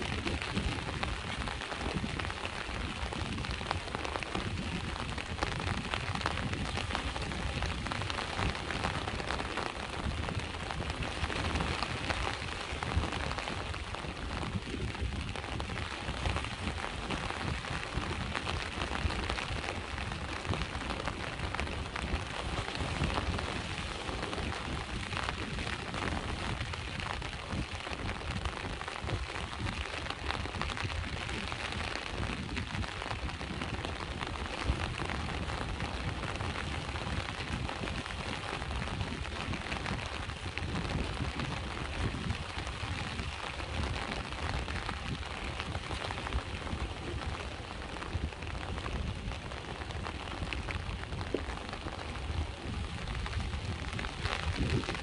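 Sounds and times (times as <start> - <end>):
sea waves rumbling: 0.0 - 55.0
steady rain falling: 0.0 - 55.0.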